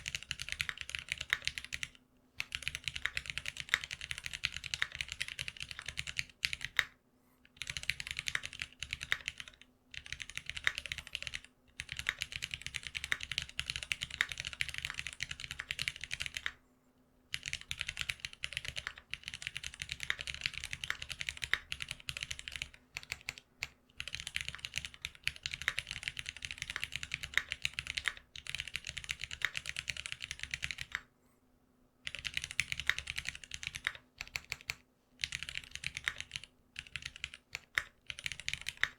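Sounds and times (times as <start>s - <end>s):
mechanical keyboard typing: 0.0s - 7.0s, 7.6s - 16.6s, 17.3s - 31.1s, 32.0s - 38.9s.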